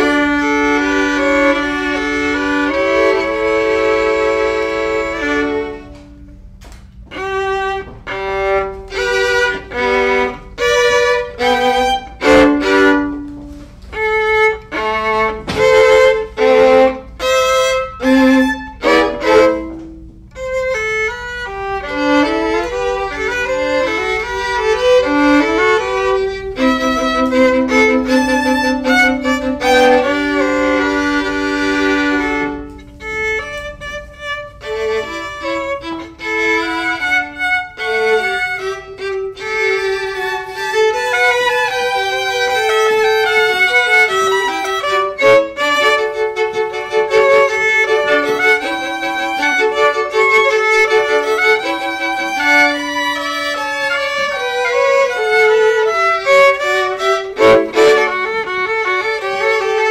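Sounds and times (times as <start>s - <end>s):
violin melody: 0.0s - 59.9s.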